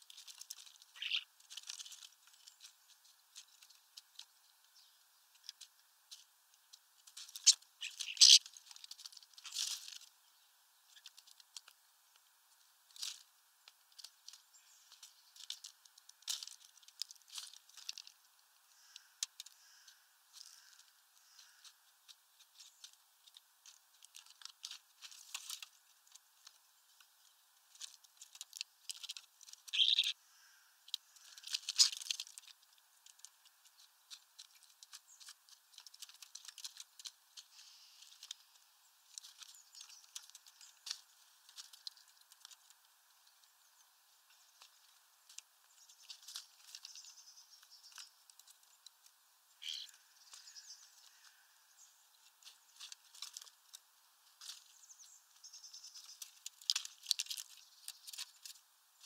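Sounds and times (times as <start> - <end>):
seeds rattling: 0.0 - 30.2, 30.8 - 59.0.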